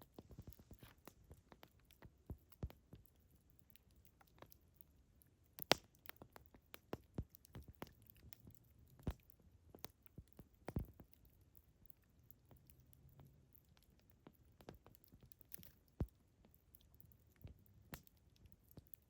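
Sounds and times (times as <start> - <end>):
burning wood popping: 0.0 - 4.7, 5.5 - 19.0
campfire crackling: 0.0 - 19.0.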